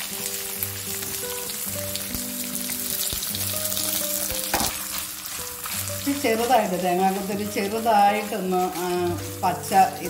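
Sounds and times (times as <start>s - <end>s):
coconut sizzling in oil: 0.0s - 10.0s.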